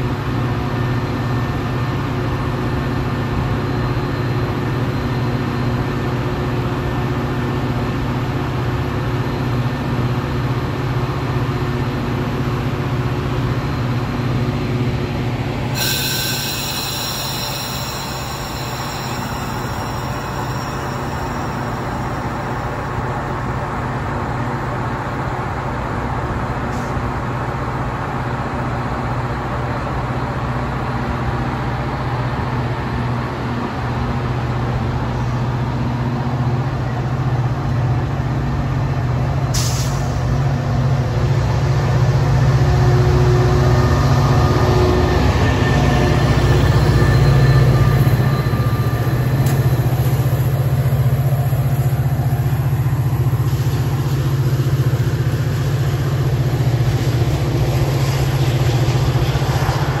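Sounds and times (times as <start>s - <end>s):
diesel locomotive drone: 0.0s - 60.0s
train wheels on rails: 0.0s - 60.0s.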